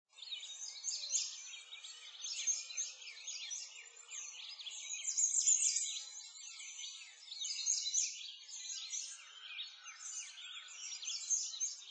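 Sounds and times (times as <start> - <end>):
songbirds chirping and singing: 0.1 - 11.9.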